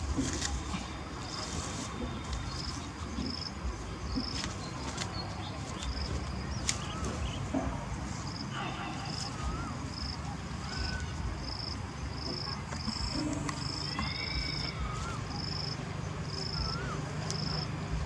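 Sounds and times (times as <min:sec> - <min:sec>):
low outdoor background rumble: 0:00.0 - 0:18.0.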